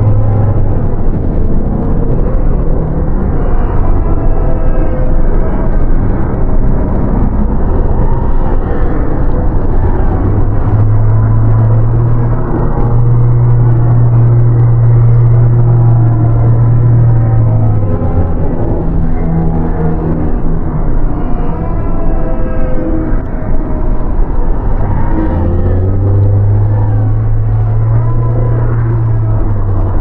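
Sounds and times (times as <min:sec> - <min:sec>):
dense low rumble: 0:00.0 - 0:30.0
low droning tone: 0:00.0 - 0:30.0.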